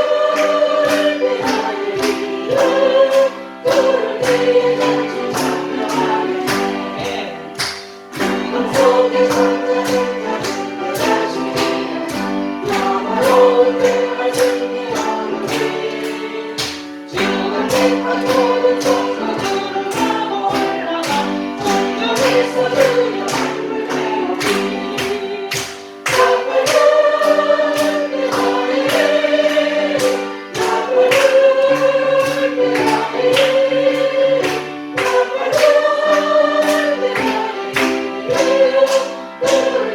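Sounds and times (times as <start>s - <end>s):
choir singing a hymn: 0.0s - 39.9s
instrumental accompaniment with beat: 0.0s - 39.9s.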